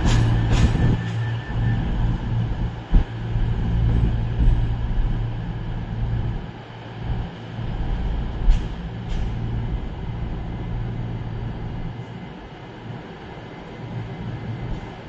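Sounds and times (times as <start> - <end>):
train engines droning: 0.0 - 15.0.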